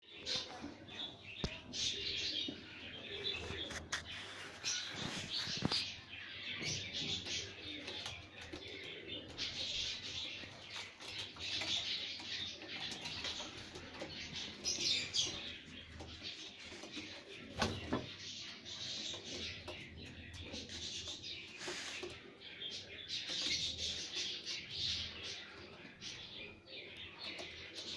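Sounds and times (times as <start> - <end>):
quails chirping and calling: 1.4 - 27.9.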